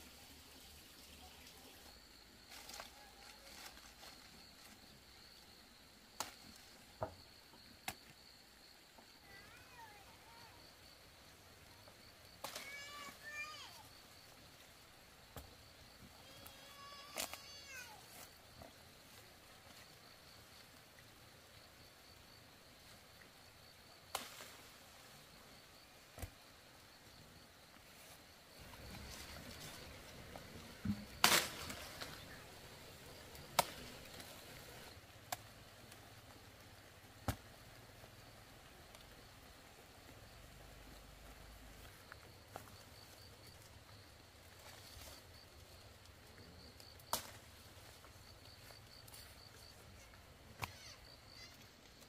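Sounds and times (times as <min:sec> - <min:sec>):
high insect whine: 0:00.6 - 0:52.0.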